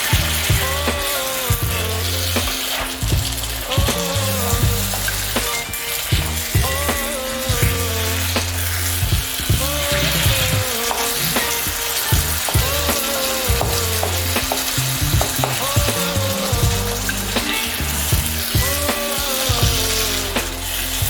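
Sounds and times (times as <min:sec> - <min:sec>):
background music with bass: 0:00.0 - 0:21.0
food sizzling in a frying pan: 0:00.0 - 0:21.0.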